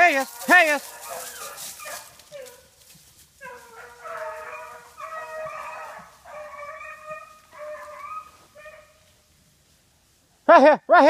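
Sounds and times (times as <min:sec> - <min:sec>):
hounds baying: 0:00.0 - 0:09.2.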